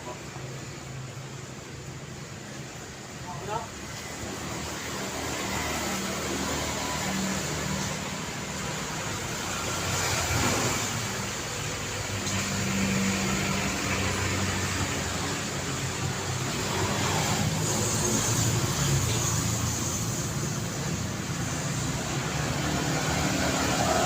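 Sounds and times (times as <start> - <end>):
cars passing on city street: 0.0 - 24.0.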